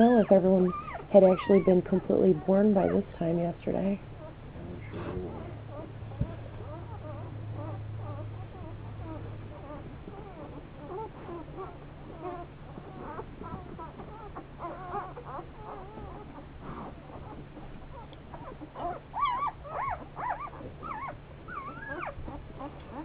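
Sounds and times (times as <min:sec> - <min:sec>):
puppies squeaking and whimpering: 0:00.0 - 0:03.3, 0:04.0 - 0:23.0
steady low hum: 0:00.0 - 0:23.0.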